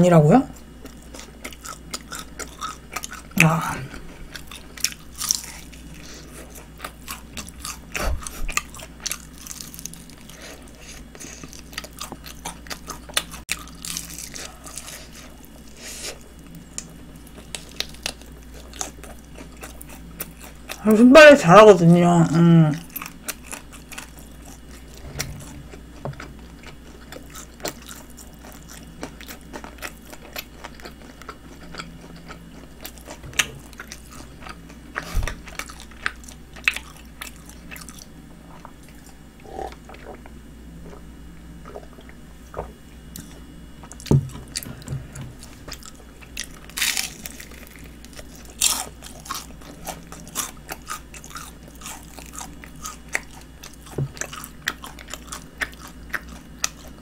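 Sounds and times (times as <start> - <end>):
crunching fried chicken: 0.6 - 21.0, 22.8 - 40.3, 45.3 - 57.0.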